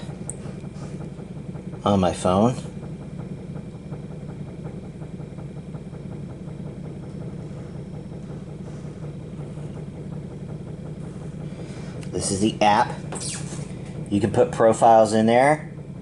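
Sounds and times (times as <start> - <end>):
small motor humming: 0.0 - 16.0.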